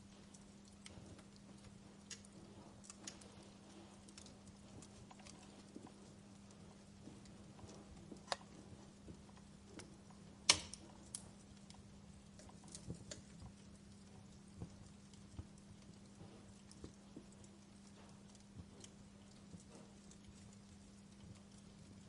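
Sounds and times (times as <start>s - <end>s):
faint low hum: 0.0s - 22.0s
wood fire crackling: 0.0s - 22.0s.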